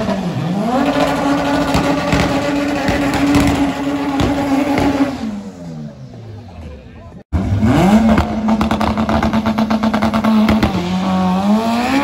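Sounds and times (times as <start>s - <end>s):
car engine at high revs: 0.0s - 6.5s, 7.2s - 12.0s
engine crackles: 0.0s - 12.0s.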